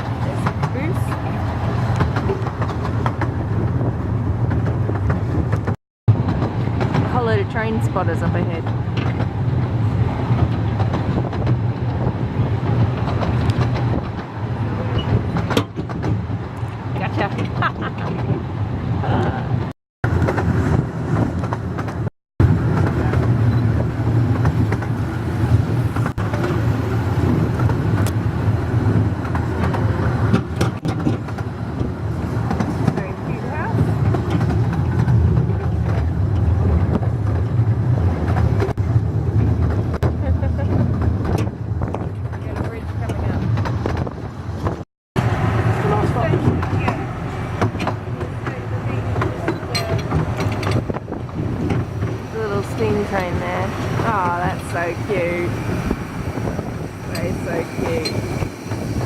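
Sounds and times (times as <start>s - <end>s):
train carriage rumbling: 0.0s - 59.0s
wheels clicking on rails: 0.0s - 59.0s.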